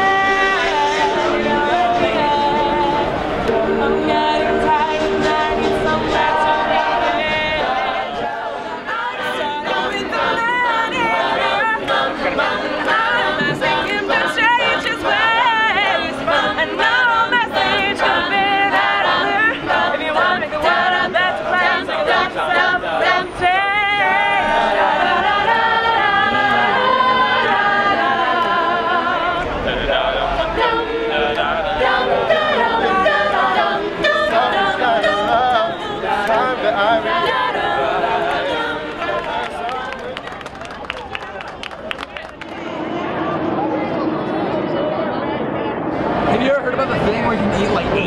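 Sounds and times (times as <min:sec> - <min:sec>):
choir singing a cappella: 0:00.0 - 0:40.2.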